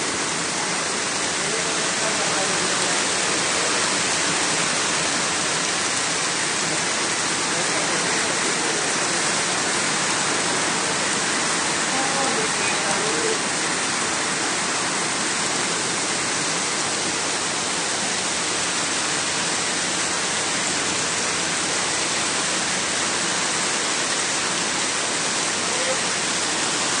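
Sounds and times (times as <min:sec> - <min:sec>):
heavy rain falling on water: 0:00.0 - 0:27.0.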